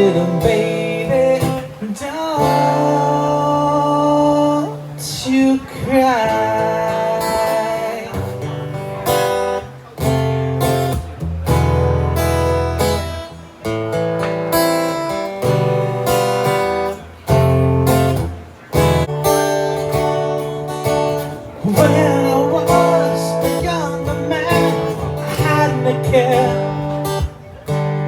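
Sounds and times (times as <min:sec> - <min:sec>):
acoustic guitar strummed chords: 0:00.0 - 0:28.0.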